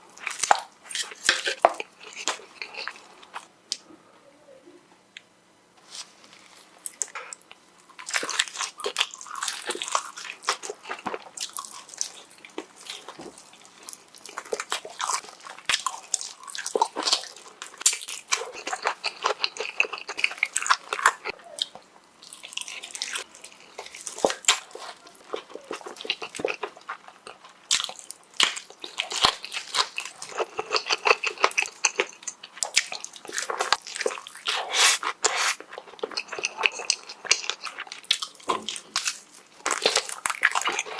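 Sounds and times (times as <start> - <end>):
person chewing food: 0.0 - 3.8, 5.8 - 40.9.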